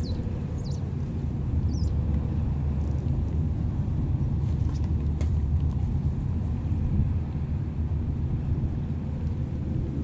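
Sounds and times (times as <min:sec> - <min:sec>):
ship engine rumble: 0:00.0 - 0:10.0.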